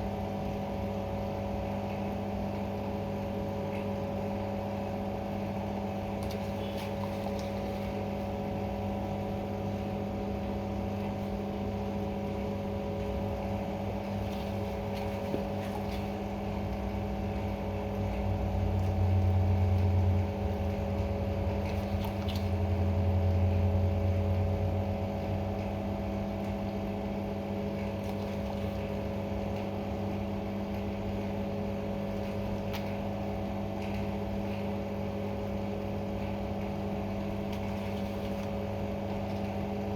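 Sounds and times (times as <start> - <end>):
machine hum with low drone: 0.0 - 39.9.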